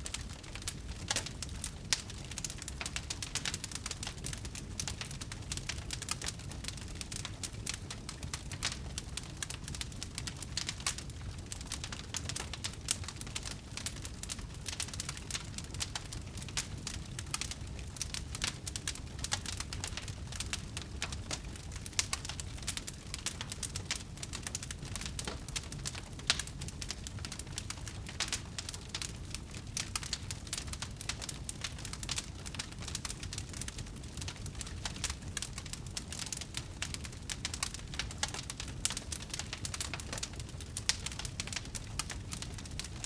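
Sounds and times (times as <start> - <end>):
fire popping: 0.0 - 43.0
flames rumbling: 0.0 - 43.0
wood fire crackling: 0.0 - 43.0.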